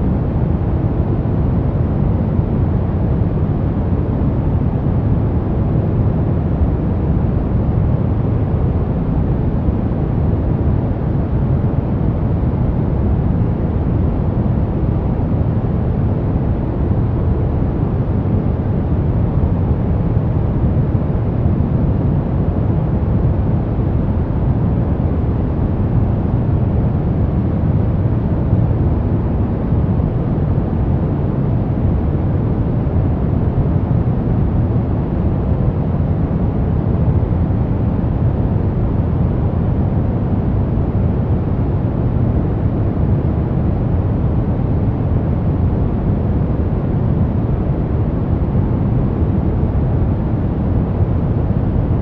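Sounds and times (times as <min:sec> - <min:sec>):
brown noise rumbling hiss: 0:00.0 - 0:52.0.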